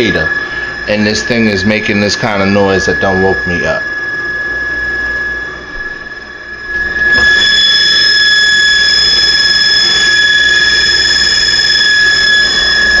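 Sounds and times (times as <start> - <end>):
refrigerator high-pitched squeal: 0.0 - 13.0.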